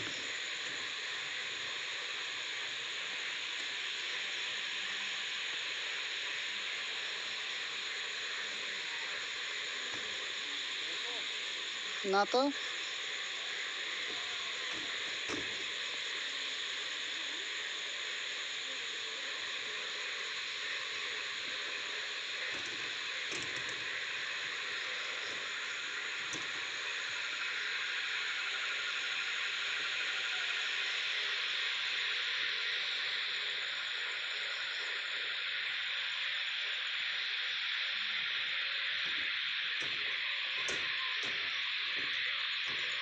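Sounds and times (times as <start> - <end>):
electric arc welding hiss: 0.0 - 43.0.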